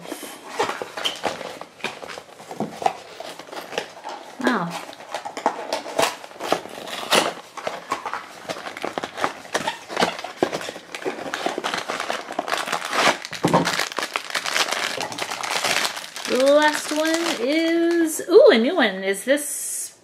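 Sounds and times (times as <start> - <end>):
foil bag crinkling: 0.0 - 18.2
cardboard box clicks and crackles: 0.6 - 18.0.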